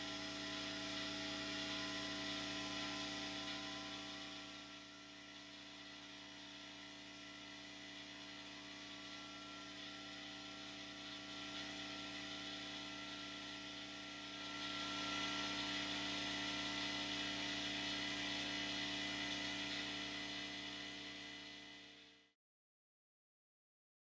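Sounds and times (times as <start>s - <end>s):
electric air compressor humming: 0.0s - 22.0s.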